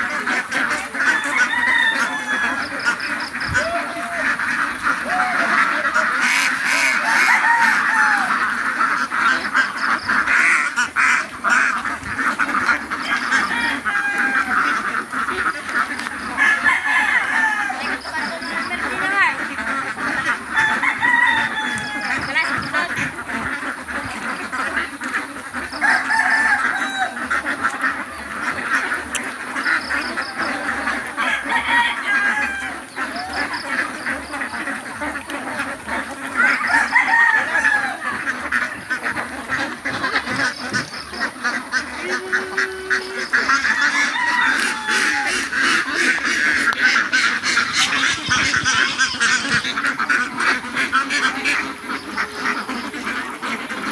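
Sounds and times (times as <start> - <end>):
ducks quacking: 0.0 - 53.9.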